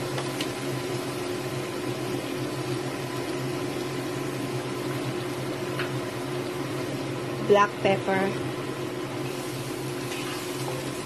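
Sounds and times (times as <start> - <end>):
chicken sizzling in a wok: 0.0 - 11.0
mechanical hum: 0.0 - 11.0.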